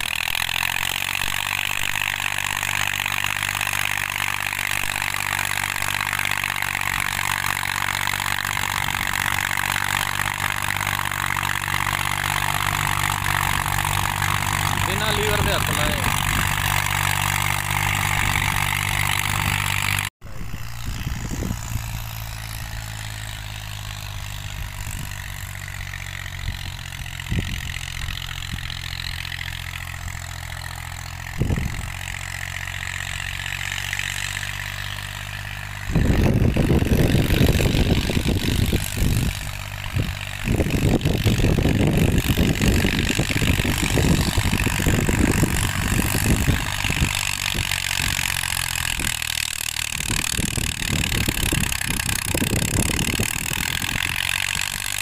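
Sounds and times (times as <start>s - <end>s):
loud uneven low rumble: 0.0s - 55.0s
tractor diesel engine running: 0.0s - 55.0s.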